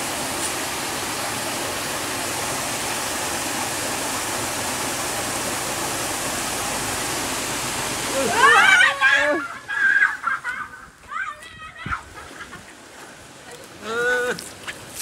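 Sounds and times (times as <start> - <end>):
water rushing through sluice gate: 0.0 - 15.0.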